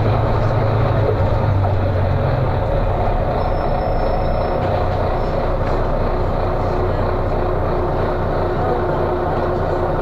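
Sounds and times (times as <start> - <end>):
bus diesel engine drone: 0.0 - 10.0.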